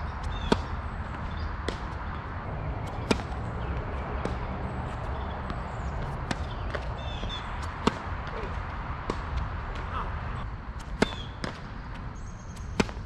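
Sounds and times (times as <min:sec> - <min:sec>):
tennis balls struck by rackets: 0:00.1 - 0:10.0, 0:10.7 - 0:13.0.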